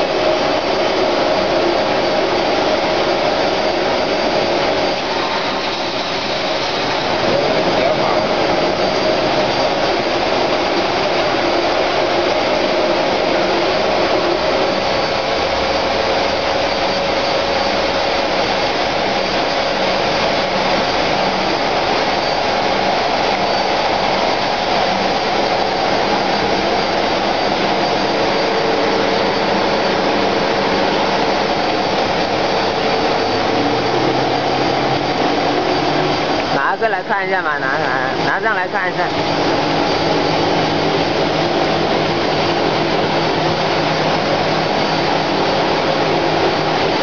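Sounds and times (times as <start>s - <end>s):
pelletizer machine whirring: 0.0s - 47.0s.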